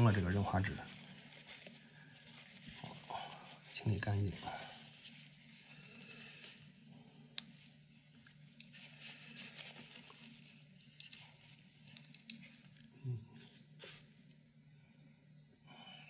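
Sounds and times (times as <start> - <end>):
rustling and scraping: 0.0 - 12.9
faint hum: 0.0 - 16.0.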